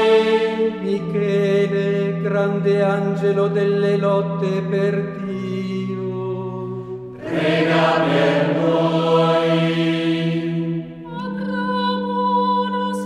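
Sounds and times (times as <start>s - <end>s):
background music with held notes: 0.0s - 13.0s.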